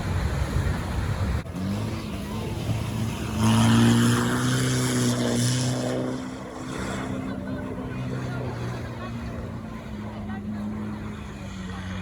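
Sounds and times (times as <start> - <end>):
off-road vehicle engine under load: 0.0 - 12.0.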